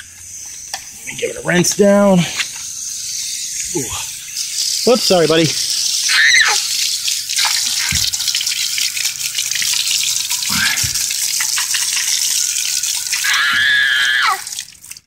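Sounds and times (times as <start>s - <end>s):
garden hose spray hissing: 0.0s - 15.0s.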